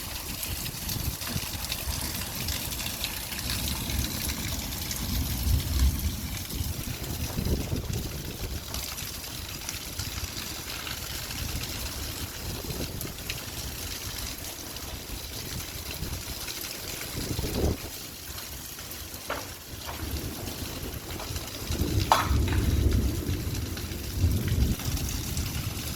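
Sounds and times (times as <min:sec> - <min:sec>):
light rain falling: 0:00.0 - 0:25.9
water trickling: 0:00.0 - 0:25.9.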